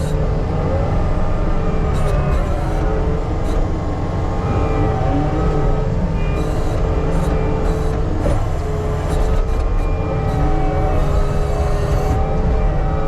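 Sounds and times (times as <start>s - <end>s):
pitched hum: 0.0s - 13.0s.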